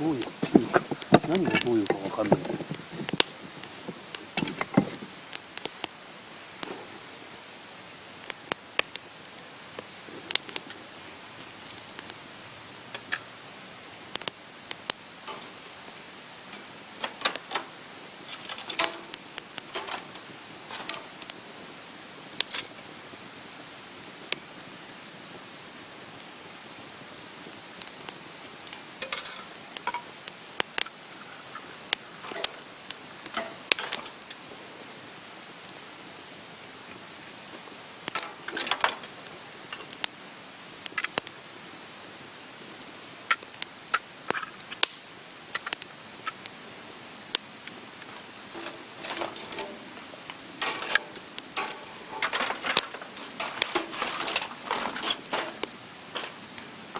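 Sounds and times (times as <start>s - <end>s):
campfire crackling: 0.0s - 56.9s
faint steady hiss: 0.0s - 56.9s.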